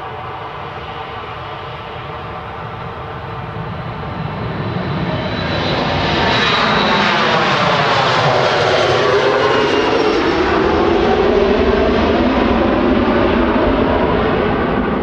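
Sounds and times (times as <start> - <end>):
jet engines roaring at takeoff: 0.0 - 15.0.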